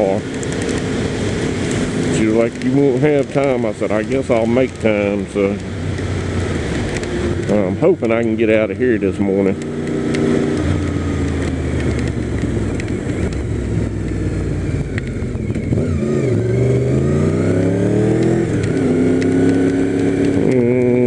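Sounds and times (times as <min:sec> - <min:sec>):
motorcycle engine accelerating: 0:00.0 - 0:21.0
road and rain noise: 0:00.0 - 0:21.0.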